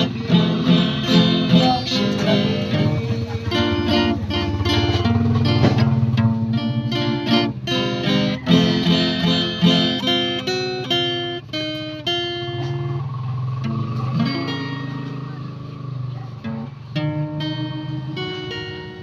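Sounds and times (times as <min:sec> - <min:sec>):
acoustic guitar plucked notes: 0:00.0 - 0:19.0.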